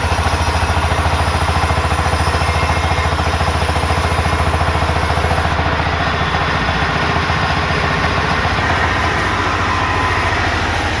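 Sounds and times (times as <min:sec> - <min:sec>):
sawmill engine pulsing: 0:00.0 - 0:11.0.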